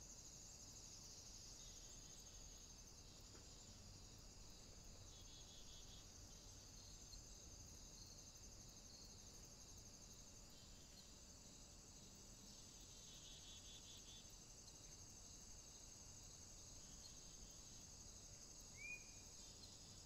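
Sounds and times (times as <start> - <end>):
high-pitched insect trill: 0.0 - 20.0.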